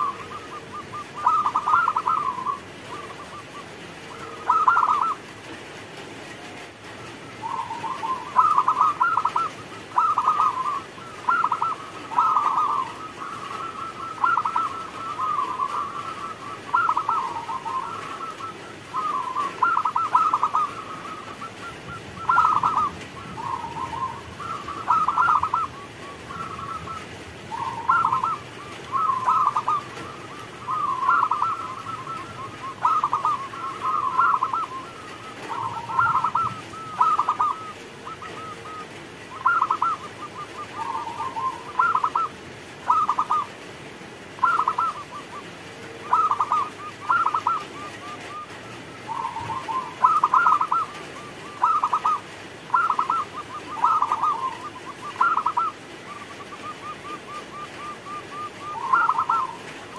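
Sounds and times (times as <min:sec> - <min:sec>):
dove cooing: 0:00.0 - 0:05.6, 0:06.2 - 0:43.6, 0:44.2 - 0:59.9.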